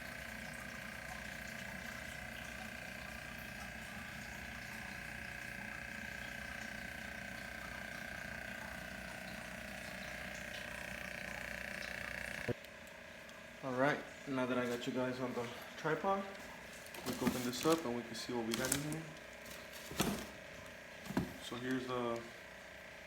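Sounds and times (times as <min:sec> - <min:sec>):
fish tank pump humming: 0:00.0 - 0:23.0.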